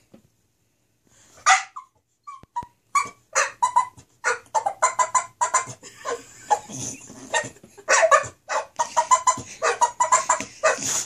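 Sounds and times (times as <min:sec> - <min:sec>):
dog yipping and whining: 0:01.5 - 0:11.0.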